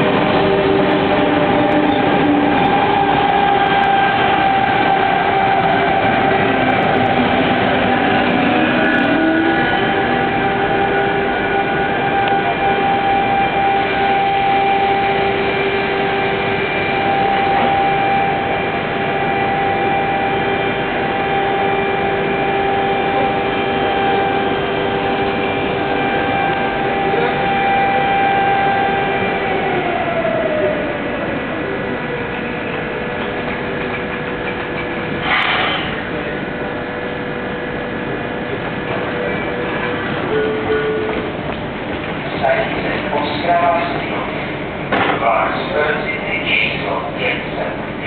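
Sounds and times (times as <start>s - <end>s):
electric train slowing to a halt: 0.0s - 48.0s
steady electrical whine: 0.0s - 48.0s.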